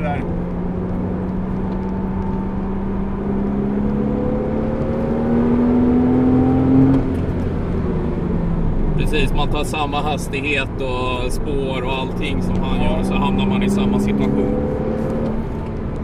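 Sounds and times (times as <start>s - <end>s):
car engine accelerating: 0.0s - 16.0s
road and tyre noise: 0.0s - 16.0s.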